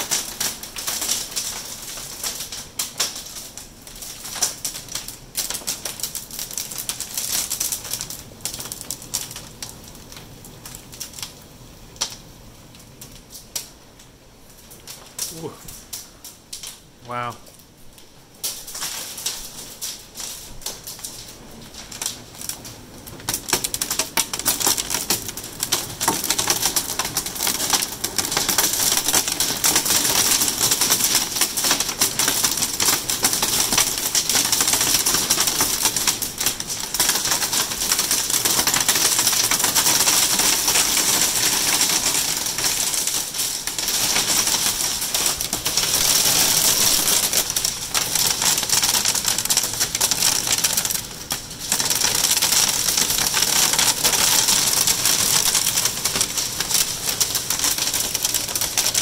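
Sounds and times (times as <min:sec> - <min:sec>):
hail clattering on windows: 0:00.0 - 0:11.4, 0:18.4 - 0:59.0.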